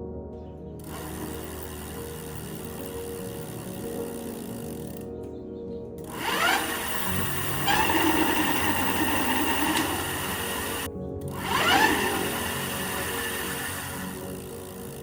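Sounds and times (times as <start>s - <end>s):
electric hub motor whining: 0.8s - 5.2s, 6.0s - 15.0s.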